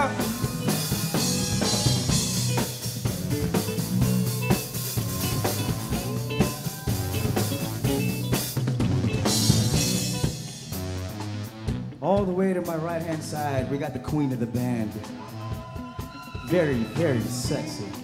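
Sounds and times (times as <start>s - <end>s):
bass notes: 0.0s - 15.4s
drum kit beat: 0.0s - 18.0s.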